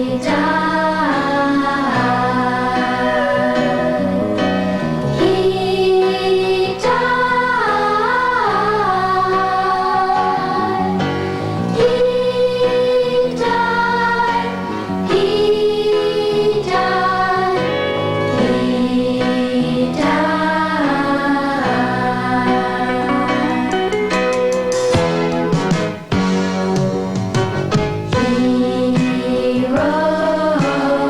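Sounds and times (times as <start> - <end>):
children's choir singing: 0.0 - 23.9, 28.1 - 31.0
instrumental accompaniment: 0.0 - 31.0.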